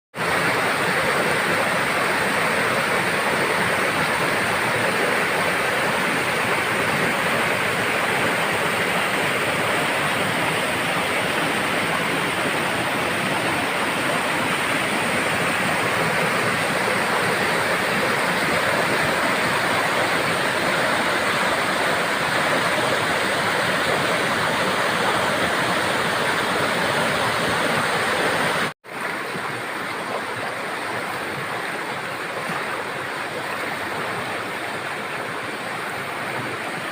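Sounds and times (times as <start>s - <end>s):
river water rushing: 0.2s - 36.9s.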